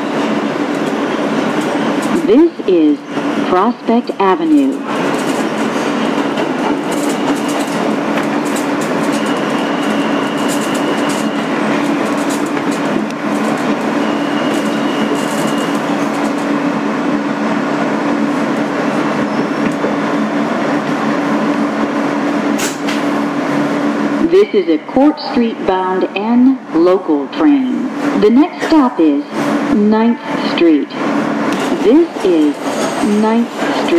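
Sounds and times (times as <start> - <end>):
wheel and track rumble: 0.0 - 24.3, 30.9 - 33.9
subway car hum: 0.0 - 33.9.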